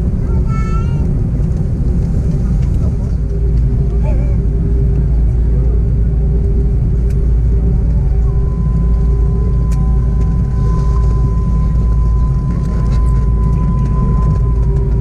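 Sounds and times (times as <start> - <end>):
airliner cabin low rumble: 0.0 - 15.0
high steady whine: 0.0 - 15.0.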